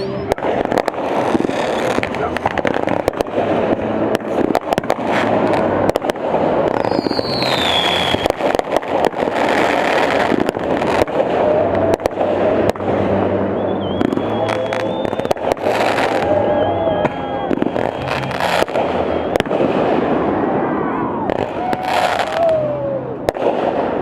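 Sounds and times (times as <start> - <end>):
firework whistle: 0.0 - 24.0
fireworks crackling and banging: 0.0 - 24.0.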